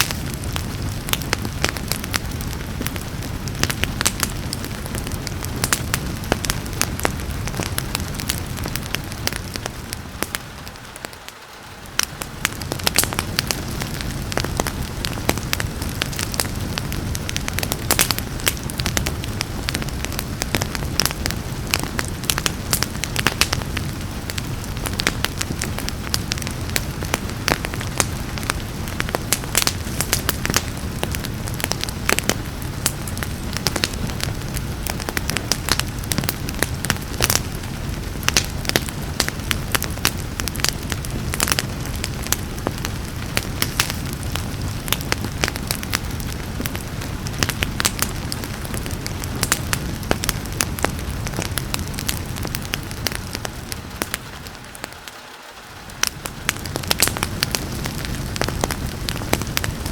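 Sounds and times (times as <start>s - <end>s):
rain hissing: 0.0s - 59.9s
wood fire crackling and popping: 0.0s - 59.9s.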